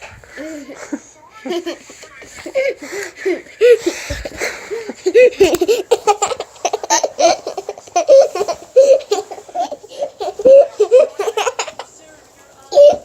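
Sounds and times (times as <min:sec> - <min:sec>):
young child giggling: 0:00.4 - 0:11.9.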